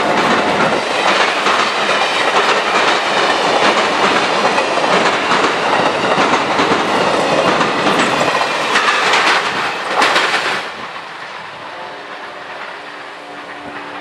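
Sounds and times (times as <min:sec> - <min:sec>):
train wheels clacking on track: 0:00.0 - 0:14.0.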